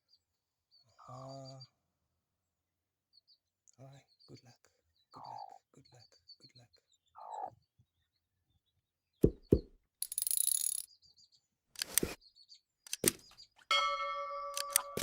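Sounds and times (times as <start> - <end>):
faint high bird chirps: 0.0 - 1.8, 3.1 - 9.6, 10.6 - 15.0.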